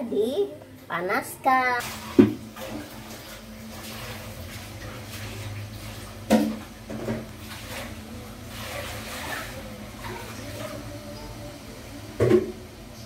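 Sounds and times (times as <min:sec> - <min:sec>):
low hum of steamer: 0:00.0 - 0:13.0.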